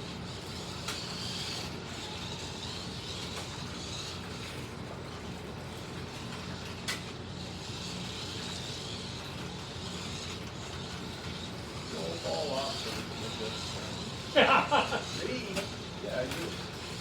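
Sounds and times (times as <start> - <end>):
slot car motors whining: 0.0 - 17.0.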